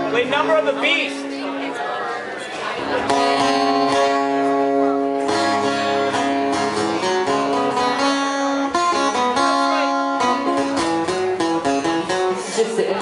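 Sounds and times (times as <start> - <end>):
guitar ringing chords: 0.0 - 13.0.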